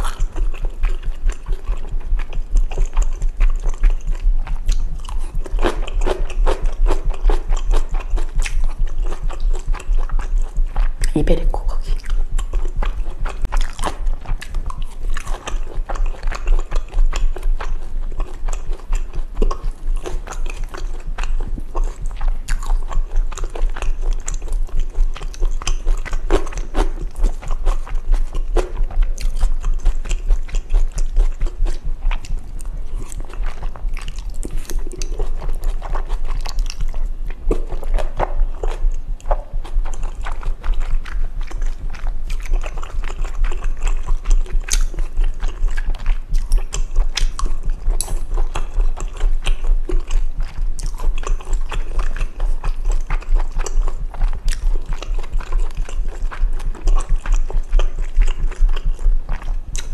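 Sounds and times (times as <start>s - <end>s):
close chewing and biting: 0.0s - 59.9s
wet mouth clicks: 0.0s - 59.9s.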